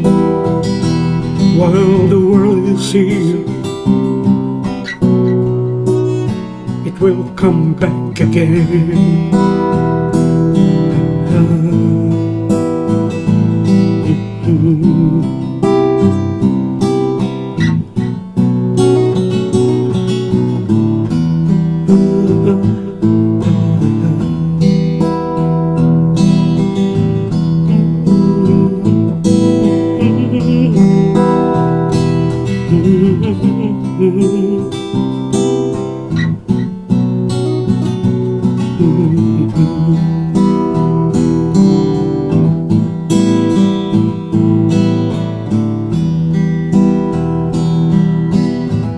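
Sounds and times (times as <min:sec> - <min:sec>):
acoustic guitar strumming chords: 0:00.0 - 0:48.9.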